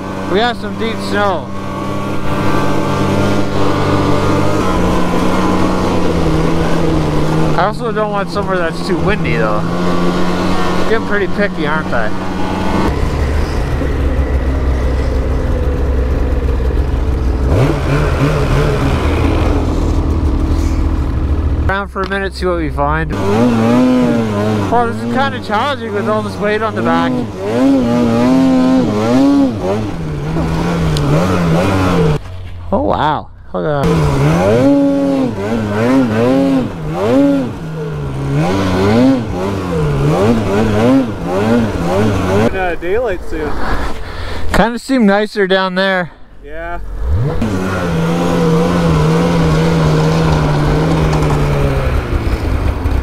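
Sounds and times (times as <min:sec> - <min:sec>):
snowmobile engine idling and revving: 0:00.0 - 0:53.0.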